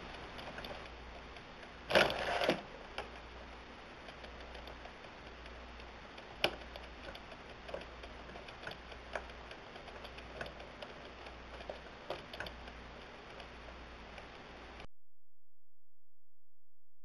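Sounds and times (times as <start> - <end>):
wooden gears clicking and knocking: 0.0 - 14.9.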